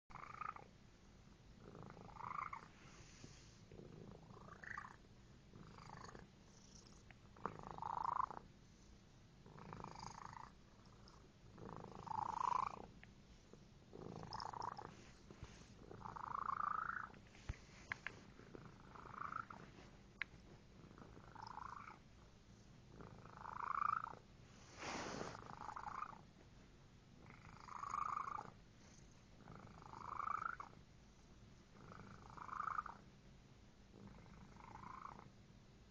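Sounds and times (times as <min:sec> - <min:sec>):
cat purring: 0:00.1 - 0:26.4, 0:27.1 - 0:33.2, 0:33.8 - 0:35.5.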